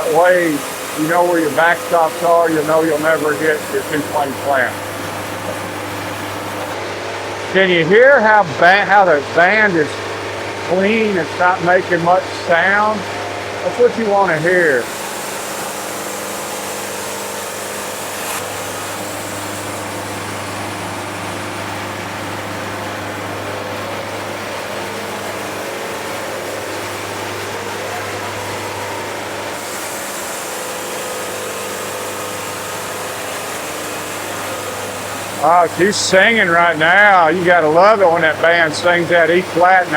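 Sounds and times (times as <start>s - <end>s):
band sawmill cutting log: 0.0s - 7.4s, 8.4s - 39.9s.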